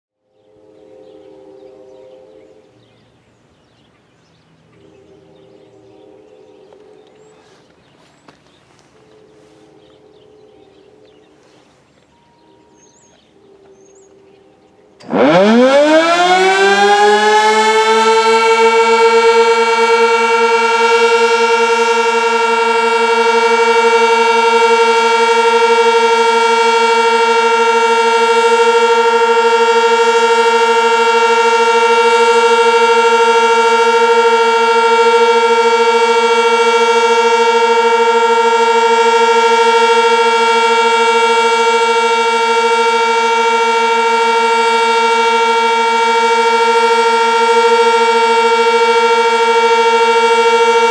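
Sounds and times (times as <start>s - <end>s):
tornado siren wailing: 0.3s - 3.5s, 4.5s - 50.9s.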